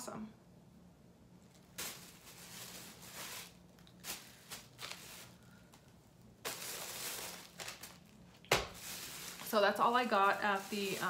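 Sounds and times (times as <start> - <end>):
cloth rustling: 1.5 - 11.0.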